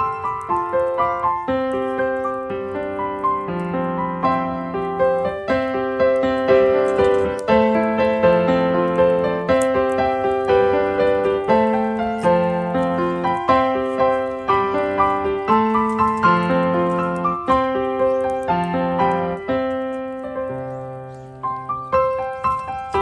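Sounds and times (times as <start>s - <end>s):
flowing piano music: 0.0s - 23.0s.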